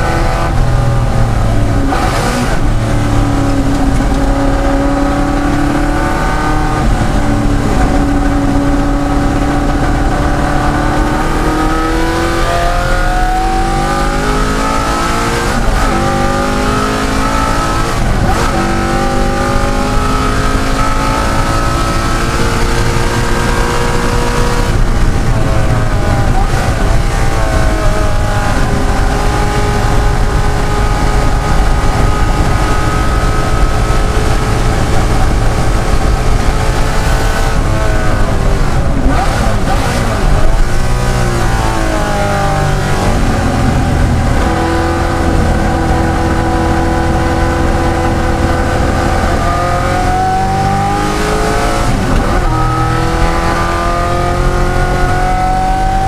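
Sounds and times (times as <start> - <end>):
racing car engine accelerating: 0.0 - 56.0.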